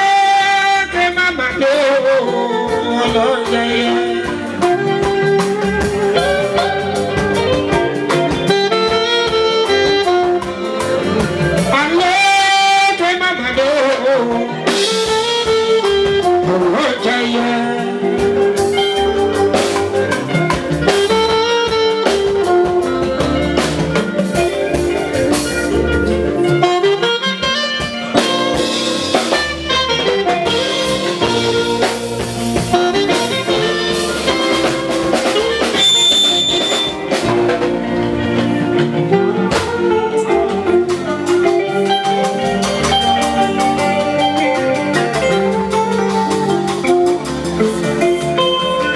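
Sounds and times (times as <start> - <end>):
person singing: 0.0 - 32.0, 36.9 - 48.9
keyboard playing: 0.0 - 48.9
talking drums and percussion: 0.0 - 48.9.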